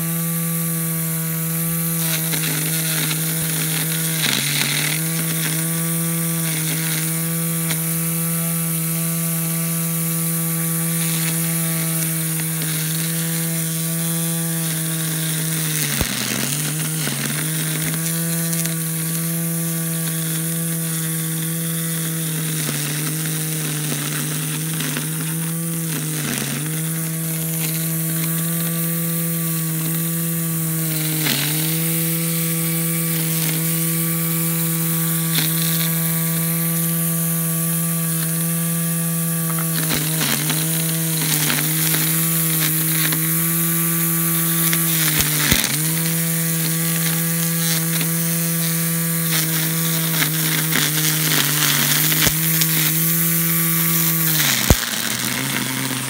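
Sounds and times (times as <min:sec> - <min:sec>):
string trimmer motor humming: 0:00.0 - 0:56.0.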